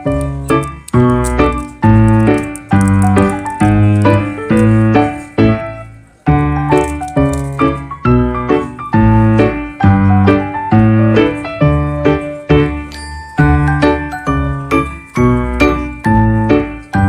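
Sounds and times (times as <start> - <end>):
keyboard music with steady beat: 0.0 - 17.0.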